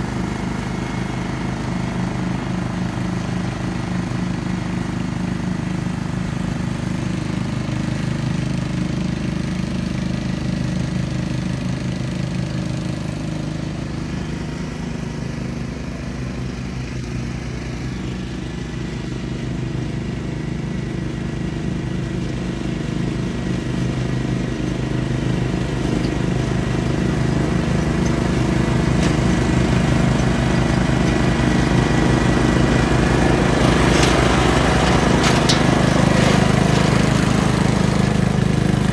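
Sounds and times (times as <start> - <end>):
riding mower engine running: 0.0 - 38.9.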